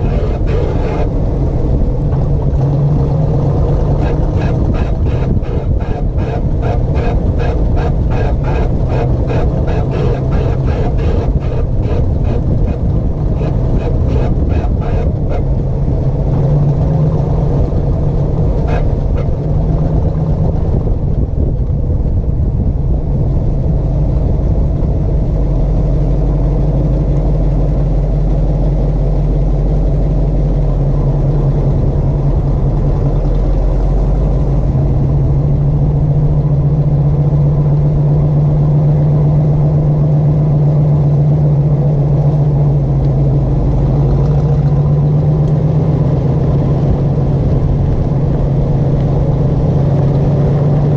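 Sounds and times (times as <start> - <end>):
car engine running: 0.0 - 50.9.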